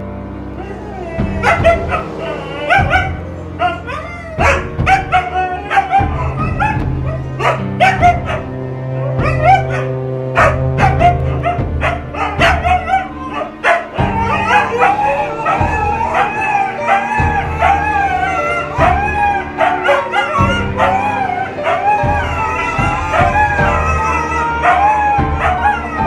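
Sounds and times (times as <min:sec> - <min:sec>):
background music: 0:00.0 - 0:26.0
dogs barking and yipping: 0:00.0 - 0:26.0
dogs howling: 0:00.0 - 0:26.0.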